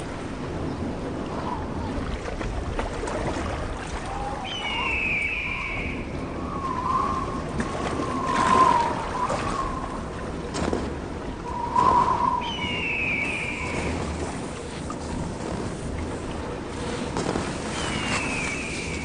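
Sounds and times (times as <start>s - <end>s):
water-like rushing noise: 0.0s - 19.0s.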